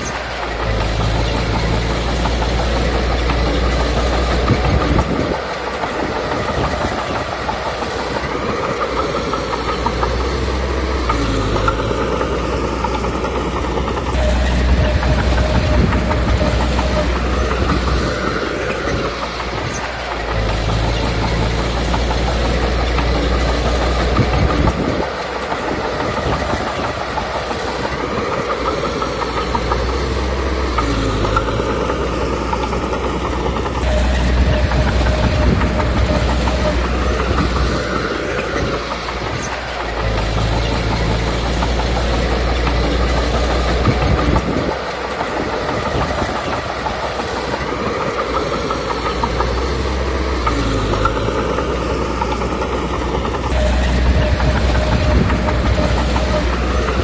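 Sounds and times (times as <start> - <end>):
bulldozer diesel engine under load: 0.0 - 57.0
clatter of steel tracks: 0.0 - 57.0.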